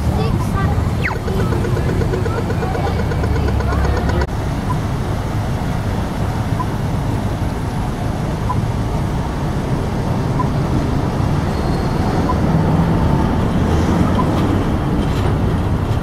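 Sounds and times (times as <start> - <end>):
traffic rumble: 0.0 - 16.0
tram rolling: 0.0 - 16.0.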